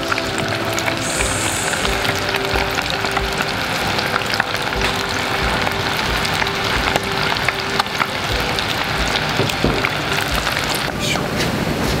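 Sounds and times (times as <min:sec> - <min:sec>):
fish deep-frying in oil: 0:00.0 - 0:11.2.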